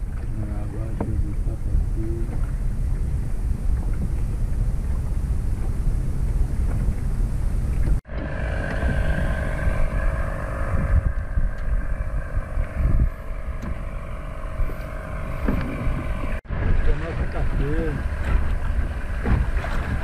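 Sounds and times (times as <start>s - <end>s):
boat motor drone: 0.0s - 20.0s
wind rumbling on microphone: 0.0s - 20.0s.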